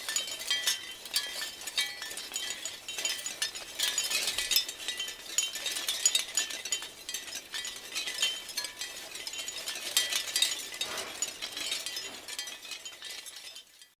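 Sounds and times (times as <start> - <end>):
shell wind chimes clattering: 0.0 - 14.0.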